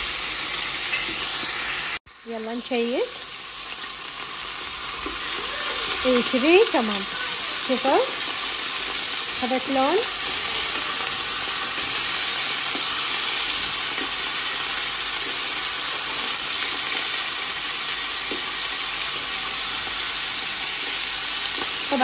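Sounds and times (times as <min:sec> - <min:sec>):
meat sizzling in a pan: 0:00.0 - 0:22.0.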